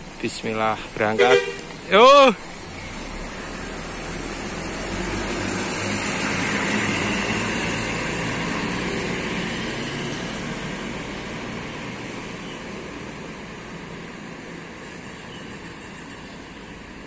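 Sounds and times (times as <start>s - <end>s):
coach bus engine driving past: 0.8s - 17.0s.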